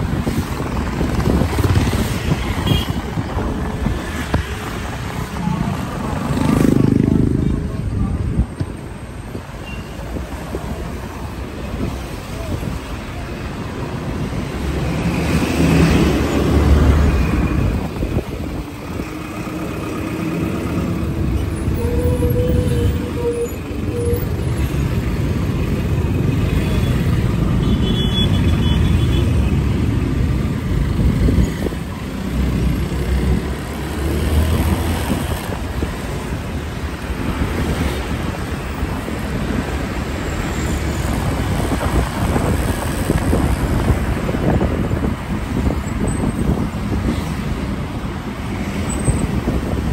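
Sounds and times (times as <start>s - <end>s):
traffic rumble: 0.0s - 49.9s.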